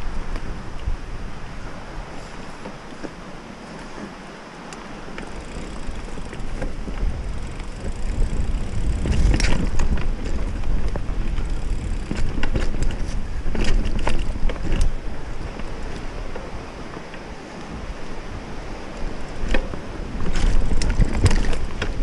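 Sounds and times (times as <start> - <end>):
bike rattling over bumps: 0.0 - 22.0
bike tyres rumbling over trail: 0.0 - 22.0.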